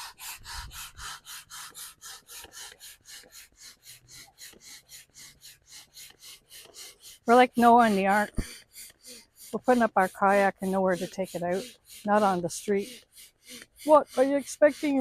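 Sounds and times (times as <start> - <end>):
air pump pumping strokes: 0.0 - 15.0.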